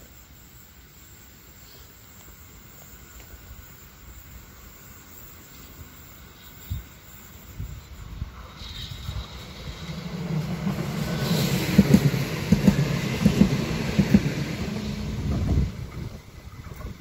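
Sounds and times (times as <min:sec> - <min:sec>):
tram rumbling and humming: 0:02.4 - 0:17.0.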